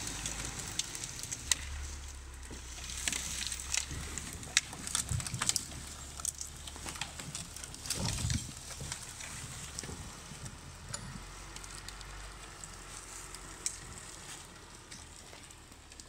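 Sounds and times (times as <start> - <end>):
twigs snapping underfoot: 0.0 - 10.1, 11.4 - 16.0.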